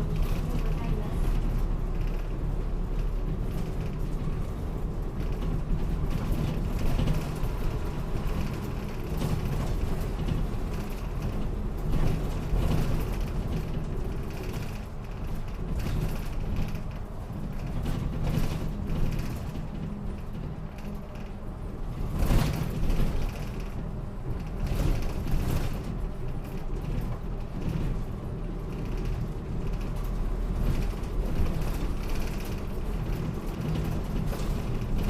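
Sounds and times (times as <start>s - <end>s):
bus engine drone: 0.0s - 35.0s
interior creaking and rattling: 0.0s - 35.0s.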